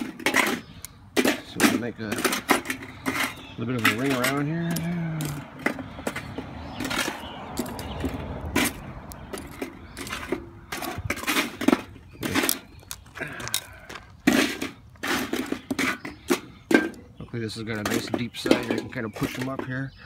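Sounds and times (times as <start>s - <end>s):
charcoal briquettes clinking: 0.0s - 20.0s.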